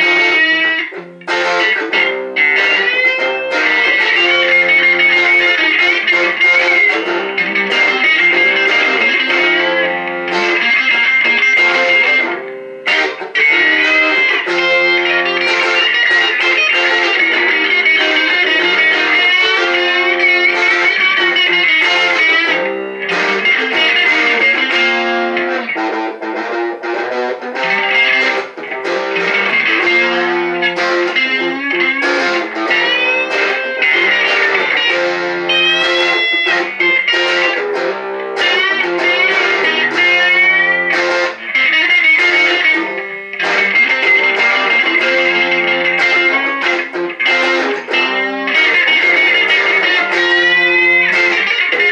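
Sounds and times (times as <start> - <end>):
electric guitar single notes: 0.0 - 51.9.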